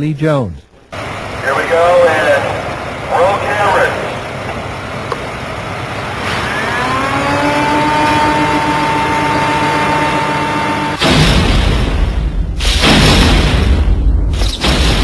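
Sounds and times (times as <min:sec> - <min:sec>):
steady rumbling noise: 0:00.0 - 0:07.0, 0:07.7 - 0:15.0.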